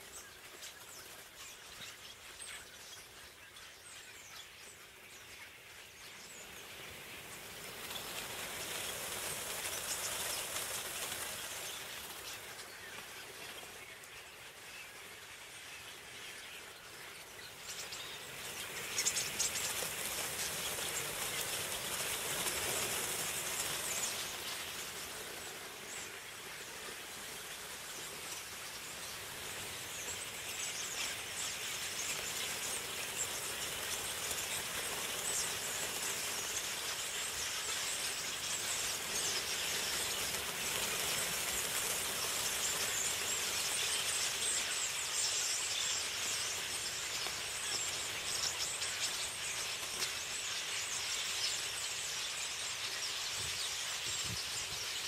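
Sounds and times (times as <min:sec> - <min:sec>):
massed bird chatter: 0:00.0 - 0:55.0
rushing hiss of wings: 0:06.5 - 0:15.7, 0:17.5 - 0:55.0.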